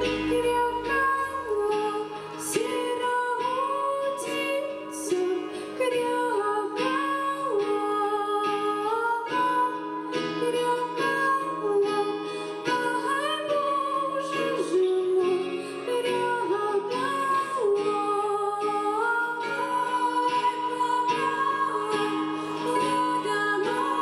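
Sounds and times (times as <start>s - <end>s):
instrumental accompaniment: 0.0s - 24.0s
women singing slow sad song: 0.0s - 24.0s.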